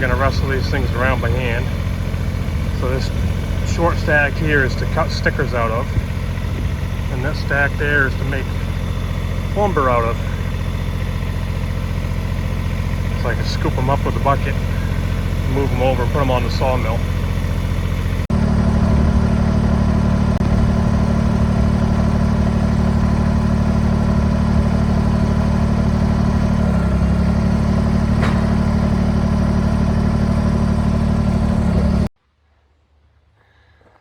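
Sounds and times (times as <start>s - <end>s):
engine running steadily: 0.0s - 32.1s.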